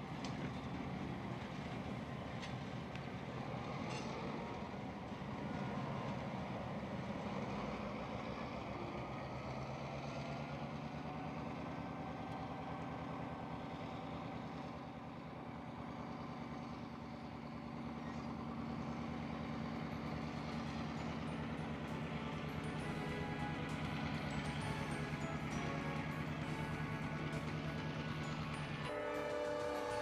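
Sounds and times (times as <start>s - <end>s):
diesel locomotive engine hum: 0.0s - 30.0s.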